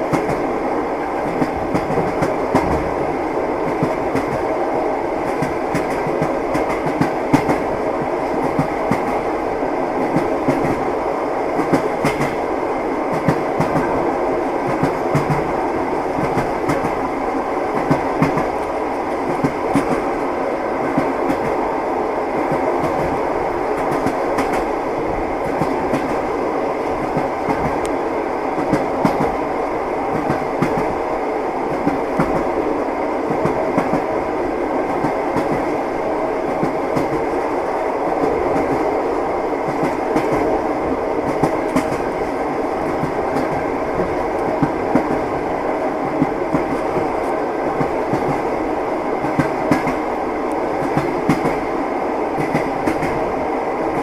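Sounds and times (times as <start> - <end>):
train wheels clacking on rails: 0.0 - 21.7, 22.3 - 32.6, 33.2 - 54.0
train rumble: 0.0 - 54.0.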